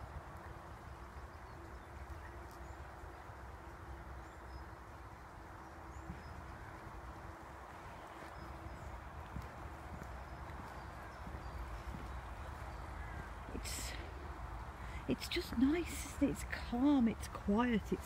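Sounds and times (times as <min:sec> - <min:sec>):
low rush of outdoor noise: 0:00.0 - 0:18.0
small birds chirping: 0:00.0 - 0:18.0.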